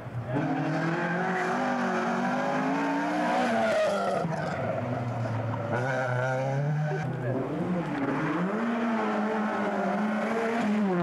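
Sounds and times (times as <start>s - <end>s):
rally car engine revving: 0.1s - 11.0s.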